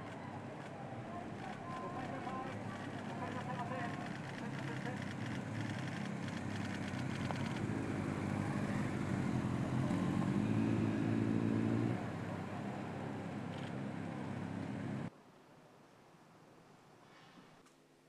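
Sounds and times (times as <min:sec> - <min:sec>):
vehicle engines humming: 0:00.0 - 0:15.1.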